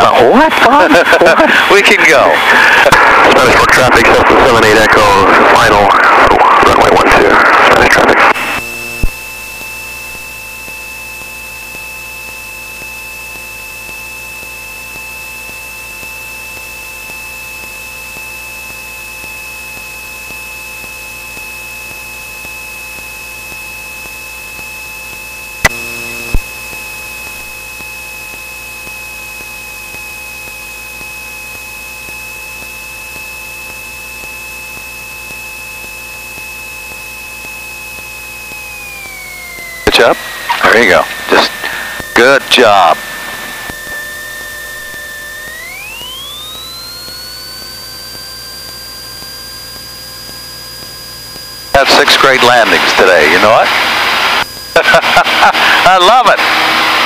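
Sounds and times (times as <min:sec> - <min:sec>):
high-pitched whine: 0:00.0 - 0:57.0.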